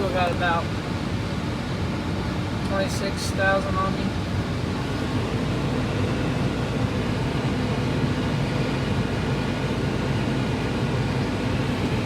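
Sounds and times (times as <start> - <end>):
diesel engine humming: 0.0 - 12.0.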